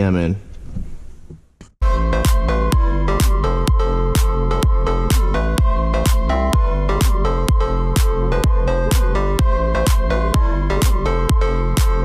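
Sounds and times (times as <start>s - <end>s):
electronic dance music: 1.8s - 12.0s
held synth notes: 1.8s - 12.0s
steady kick drum beat: 1.8s - 12.0s.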